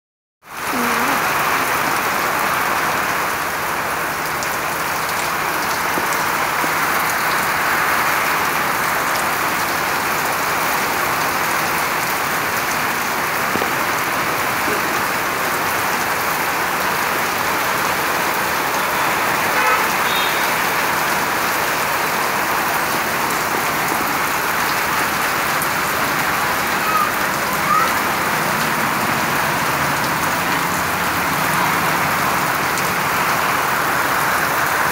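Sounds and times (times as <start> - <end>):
heavy rain on wet ground: 0.4 - 34.9.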